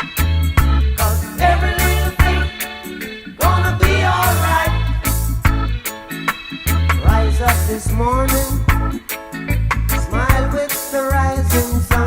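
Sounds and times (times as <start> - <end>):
background music with bass and drums: 0.0 - 12.0.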